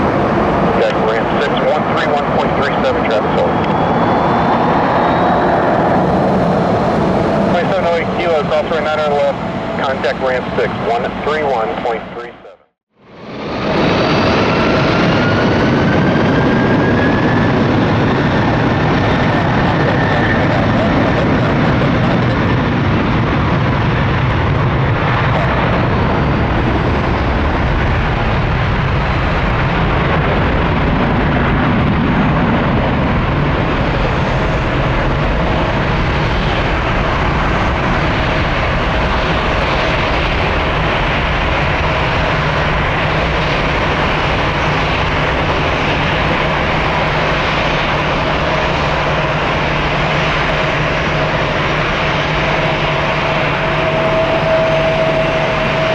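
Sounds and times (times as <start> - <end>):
jet engines at high power: 0.0 - 55.9.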